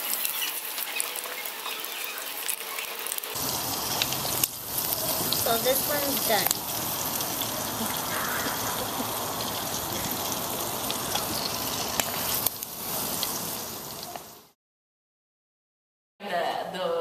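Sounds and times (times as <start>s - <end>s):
shrimp sizzling in hot oil: 0.0s - 14.6s.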